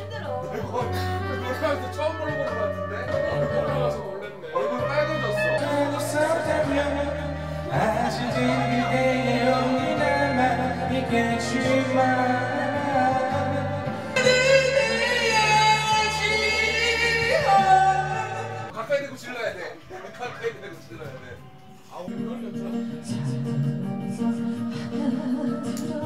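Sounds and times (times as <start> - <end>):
karaoke backing track: 0.0 - 18.8, 20.0 - 26.0
man singing karaoke: 0.0 - 18.8, 22.5 - 26.0.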